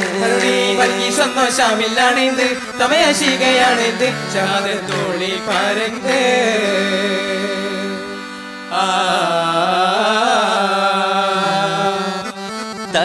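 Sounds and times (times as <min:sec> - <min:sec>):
men singing long notes: 0:00.0 - 0:13.0.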